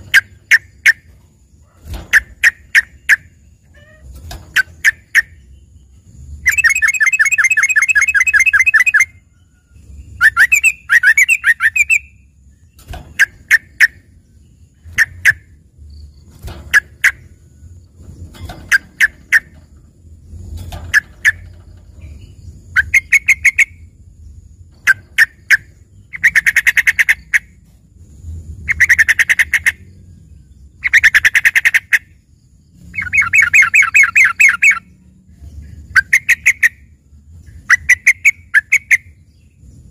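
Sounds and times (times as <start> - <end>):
bird song trills and chips: 0.0 - 39.9.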